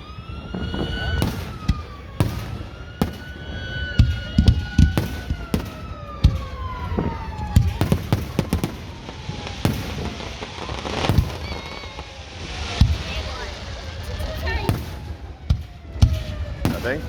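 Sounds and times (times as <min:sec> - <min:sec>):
fireworks booms and pops: 0:00.0 - 0:17.0
long whistling tone: 0:00.0 - 0:17.0.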